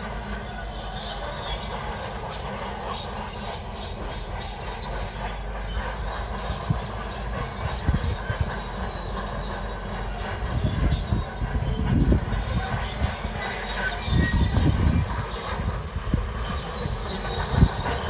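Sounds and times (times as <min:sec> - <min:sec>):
diesel engine under load: 0:00.0 - 0:18.0
steel tracks grinding and clanking: 0:00.0 - 0:18.0.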